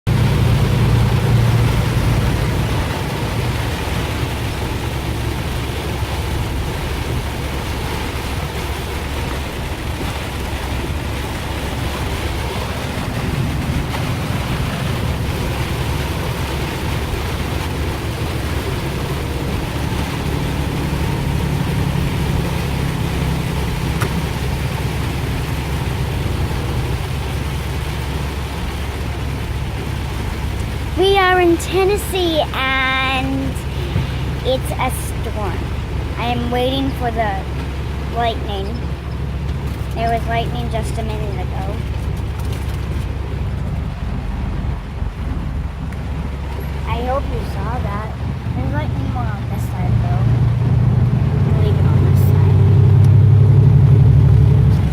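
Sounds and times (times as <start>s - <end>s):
low rumble: 0.0s - 54.9s
rainstorm rushing: 0.0s - 54.9s.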